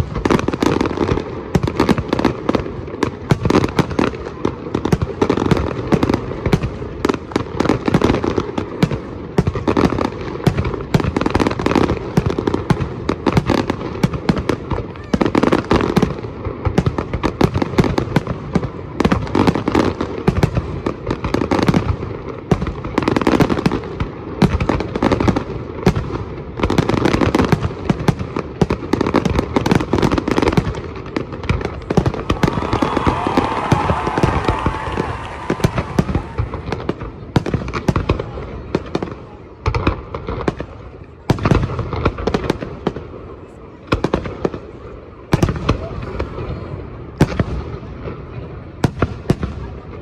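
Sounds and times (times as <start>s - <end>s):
fireworks bangs and pops: 0.0s - 50.0s.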